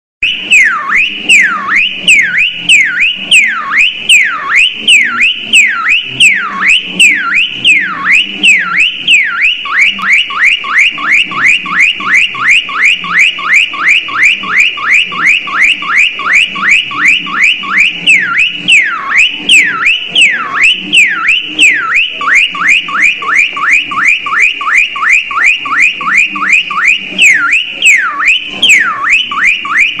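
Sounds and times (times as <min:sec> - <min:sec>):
parrot mimicking car alarm: 0:00.2 - 0:30.0.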